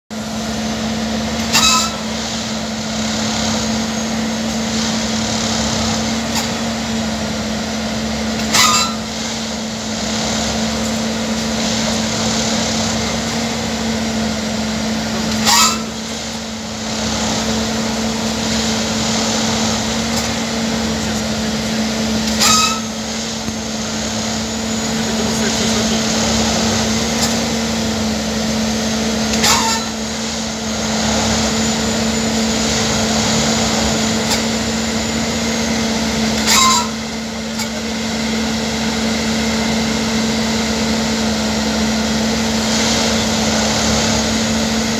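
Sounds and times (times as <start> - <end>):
track machine engine drone: 0.1 - 44.9.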